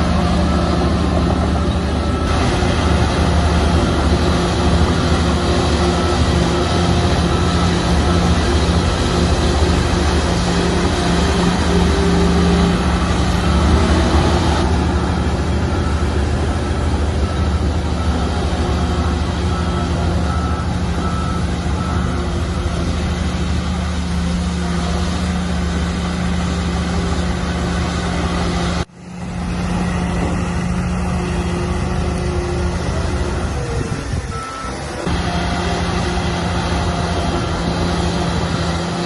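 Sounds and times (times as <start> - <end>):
reversing alarm beeping: 0.0 - 28.9, 29.9 - 39.0
heavy diesel engine running: 0.0 - 39.0.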